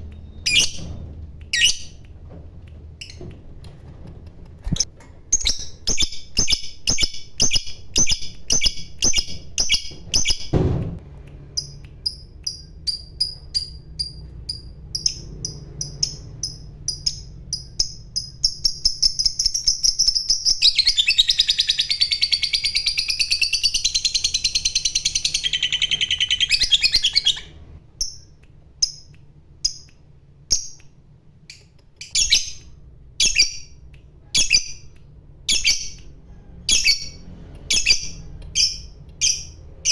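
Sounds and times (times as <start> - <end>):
lovebird chirping and trilling: 0.0 - 2.0, 3.0 - 3.2, 4.6 - 10.5, 11.5 - 29.9, 31.5 - 39.9.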